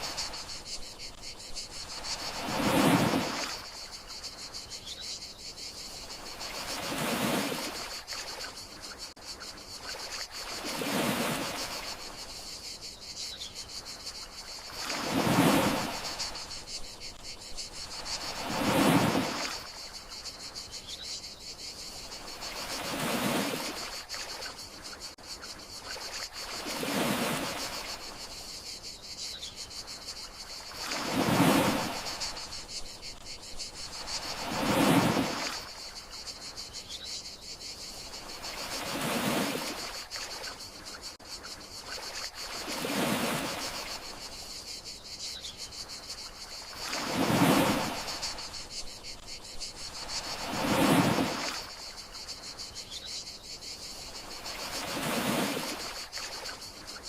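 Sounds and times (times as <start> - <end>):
gentle waves washing onto shore: 0.0 - 4.6, 5.9 - 12.5, 13.8 - 20.3, 21.8 - 25.2, 25.8 - 28.5, 30.0 - 36.5, 38.0 - 41.2, 41.8 - 44.6, 45.9 - 52.6, 53.9 - 57.0
crickets chirping: 0.0 - 57.0.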